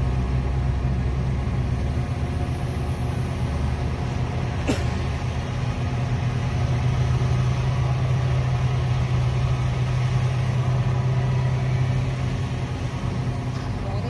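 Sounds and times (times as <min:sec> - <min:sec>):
heavy diesel engines droning: 0:00.0 - 0:14.0.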